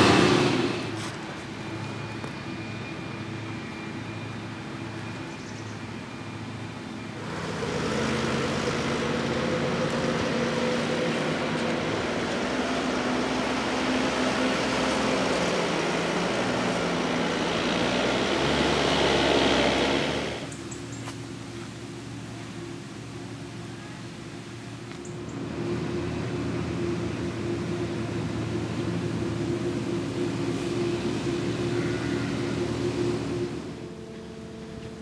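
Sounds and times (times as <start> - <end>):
forage harvester engine hum: 0.0 - 35.0
tractor engine and tyre noise: 0.0 - 35.0.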